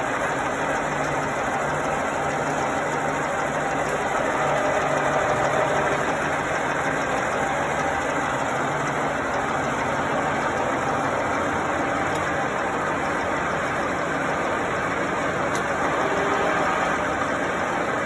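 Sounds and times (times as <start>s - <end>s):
milling machine humming: 0.0s - 18.0s.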